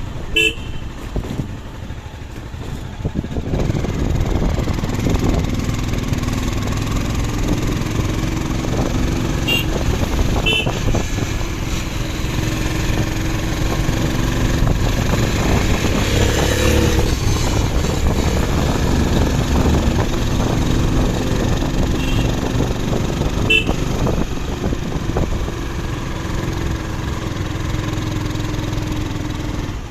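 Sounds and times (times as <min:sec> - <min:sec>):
road noise: 0:00.0 - 0:29.9
vehicle engine running: 0:00.0 - 0:29.9.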